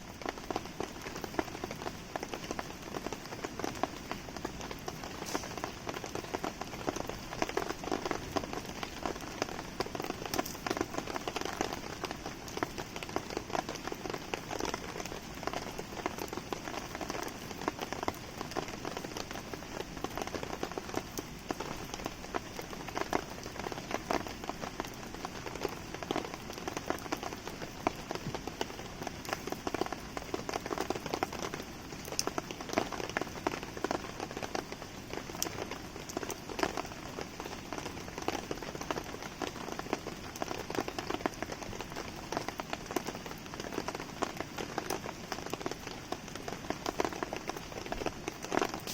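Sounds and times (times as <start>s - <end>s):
crackling campfire: 0.0s - 48.9s
rain pattering: 0.0s - 48.9s.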